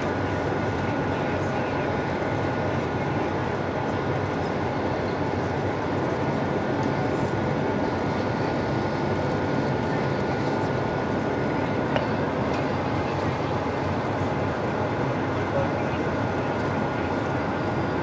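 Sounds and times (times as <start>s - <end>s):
jet engines and airflow rushing: 0.0s - 18.0s
thin steady whine: 0.0s - 18.0s.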